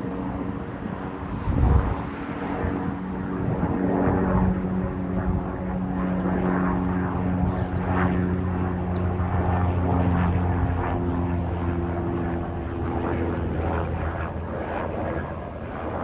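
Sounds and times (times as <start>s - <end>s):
helicopter flying by: 0.0s - 16.0s.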